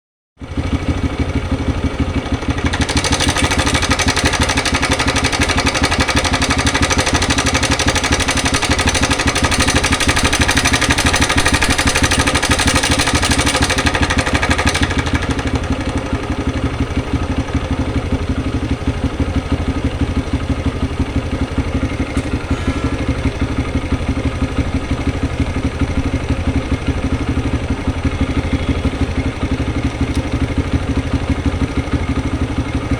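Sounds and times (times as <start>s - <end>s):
motorcycle engine idling: 0.4s - 32.9s.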